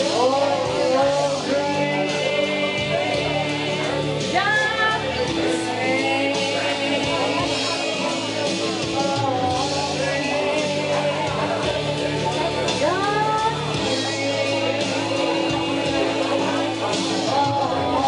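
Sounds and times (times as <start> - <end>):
instrumental accompaniment: 0.0 - 18.0
woman singing into microphone: 0.0 - 18.0.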